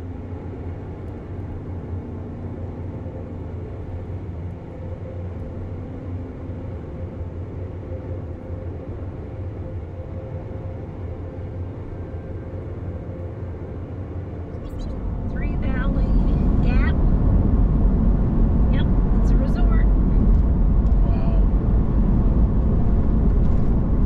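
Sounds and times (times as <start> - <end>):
road and engine noise inside vehicle: 0.0 - 24.0.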